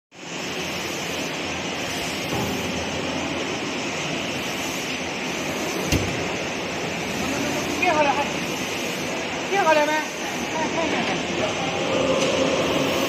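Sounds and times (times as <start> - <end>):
steam hissing: 0.2 - 13.0.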